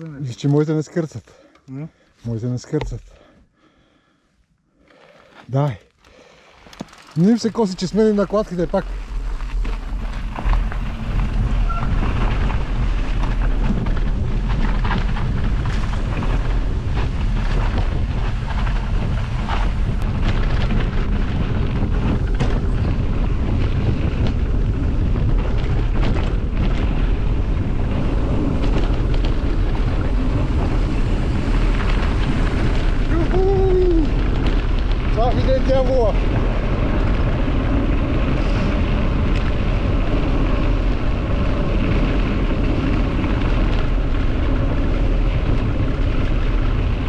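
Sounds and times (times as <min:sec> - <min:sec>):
bike rattling over bumps: 0:04.8 - 0:47.0
tyres rumbling on dirt road: 0:05.0 - 0:47.0
wind buffeting microphone: 0:07.2 - 0:47.0.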